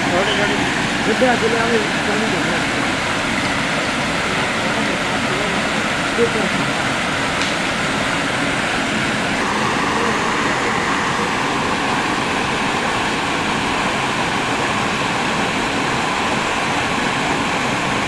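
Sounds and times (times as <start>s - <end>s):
stony stream rushing: 0.0s - 18.0s.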